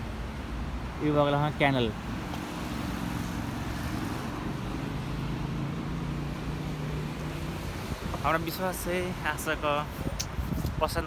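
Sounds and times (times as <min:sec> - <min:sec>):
highway traffic engine hum: 0:00.0 - 0:11.0
road noise hiss: 0:00.0 - 0:11.0.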